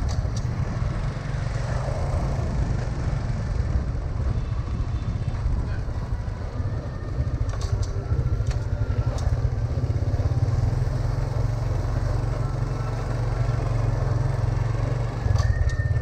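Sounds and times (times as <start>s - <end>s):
low traffic rumble: 0.0s - 16.0s
motorbike engines: 0.0s - 16.0s.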